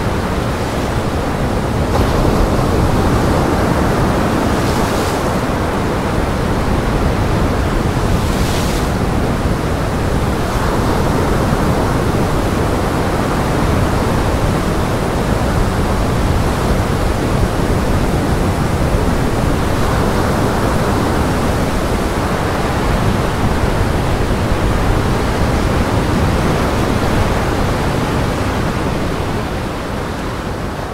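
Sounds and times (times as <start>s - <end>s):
wind rushing over microphone: 0.0s - 30.9s.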